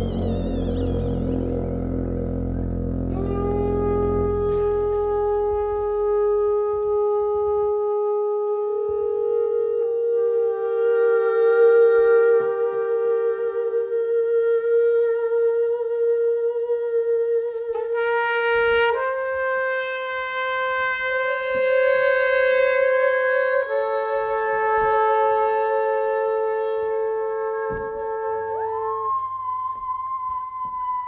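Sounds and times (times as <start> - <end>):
trumpet sustained notes: 0.0 - 31.0.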